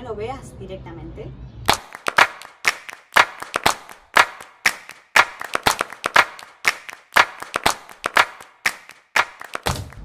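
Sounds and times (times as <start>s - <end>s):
rhythmic hand claps: 1.7s - 10.0s.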